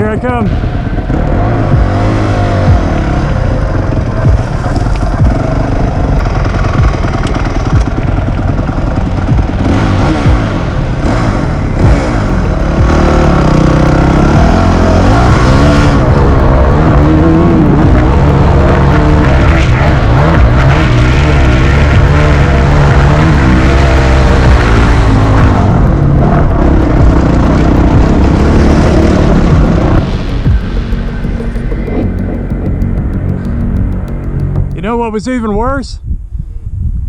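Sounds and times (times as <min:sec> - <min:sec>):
dirt bike engine revving: 0:00.0 - 0:35.2.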